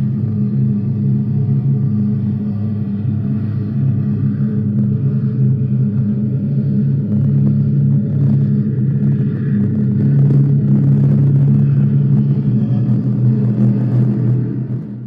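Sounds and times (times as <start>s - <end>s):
loud low engine-like rumble: 0.0s - 15.0s.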